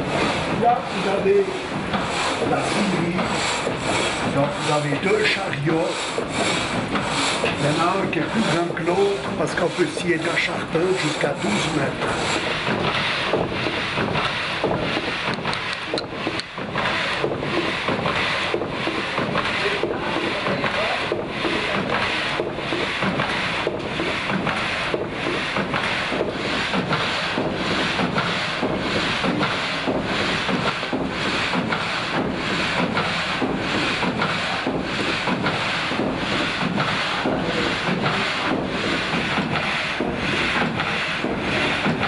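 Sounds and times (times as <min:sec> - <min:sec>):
frame saw cutting a log: 0:00.0 - 0:42.0.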